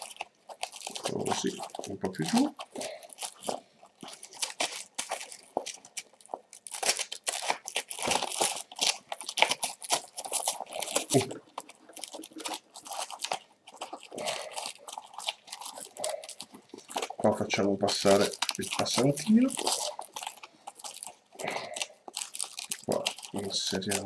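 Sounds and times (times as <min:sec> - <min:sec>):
webbing rustling and scraping: 0:00.0 - 0:24.0.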